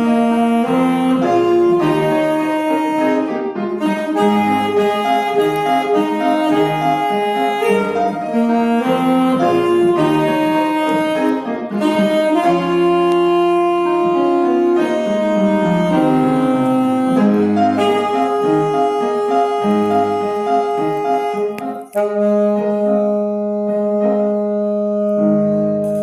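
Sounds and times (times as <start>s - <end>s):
piano accompaniment: 0.0s - 26.0s
wind instrument melody: 0.0s - 26.0s.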